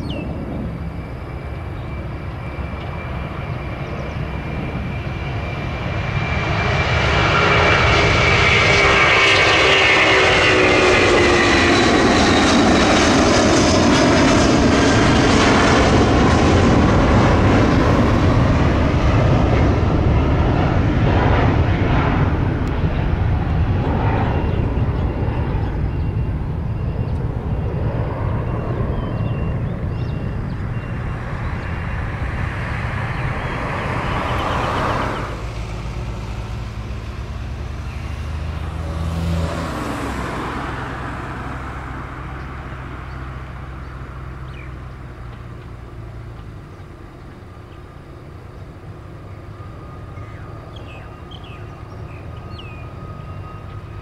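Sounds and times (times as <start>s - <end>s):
jet airliner engines: 0.0s - 54.0s
road vehicles passing: 0.0s - 54.0s.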